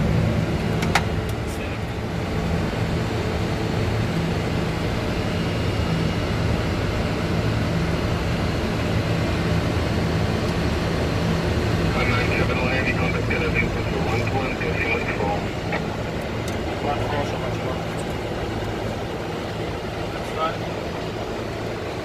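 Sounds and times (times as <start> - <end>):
low constant hum: 0.0 - 22.0.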